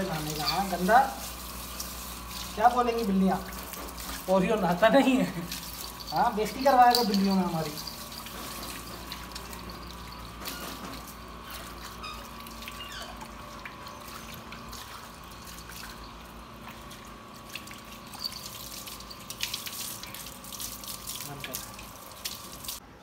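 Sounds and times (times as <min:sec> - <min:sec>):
hose water splashing: 0:00.0 - 0:22.8.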